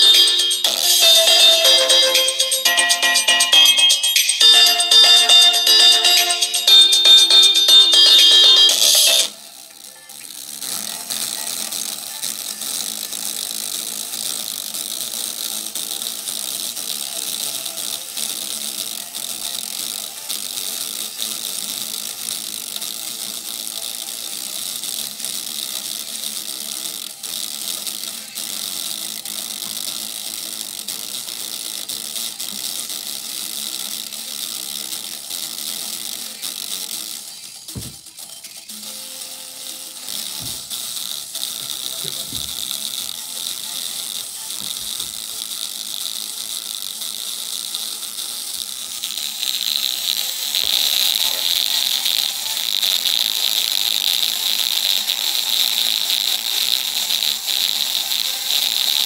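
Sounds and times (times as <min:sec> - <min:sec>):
overdriven speaker buzzing: 0:00.0 - 0:24.0, 0:24.9 - 0:46.9, 0:48.6 - 0:59.0.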